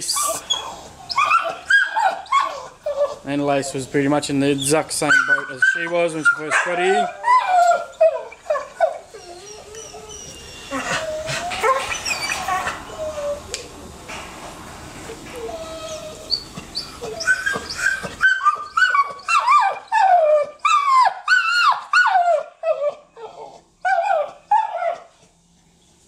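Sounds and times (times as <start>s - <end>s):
dog whining and yelping: 0.1s - 3.3s, 5.1s - 13.7s, 15.2s - 25.4s.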